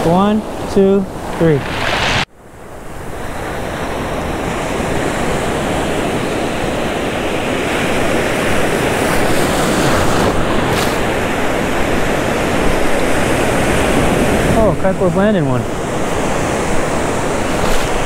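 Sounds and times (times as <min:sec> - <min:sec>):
ocean surf breaking: 0:00.0 - 0:18.0
wind buffeting microphone: 0:00.5 - 0:18.0.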